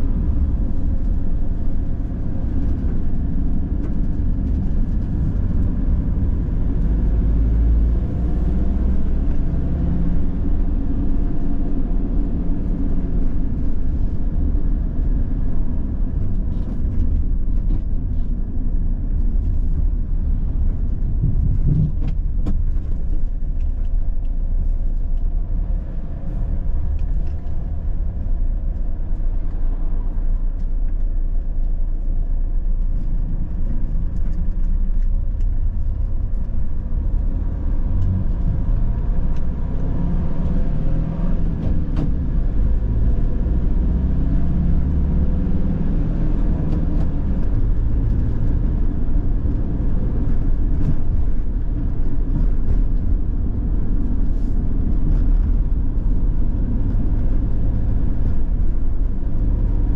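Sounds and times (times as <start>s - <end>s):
van engine and tyre rumble: 0.0s - 59.9s.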